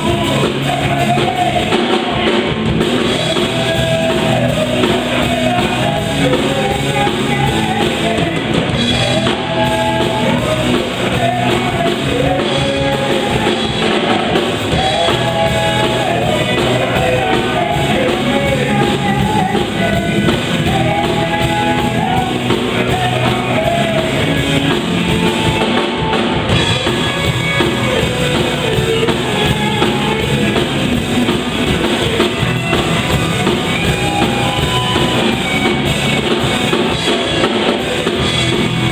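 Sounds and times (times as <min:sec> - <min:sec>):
band playing upbeat song: 0:00.0 - 0:38.9
drum kit: 0:00.0 - 0:38.9
person singing: 0:00.0 - 0:38.9.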